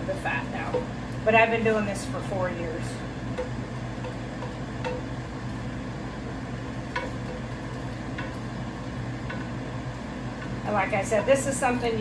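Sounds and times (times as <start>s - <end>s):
air fryer humming: 0.0s - 12.0s.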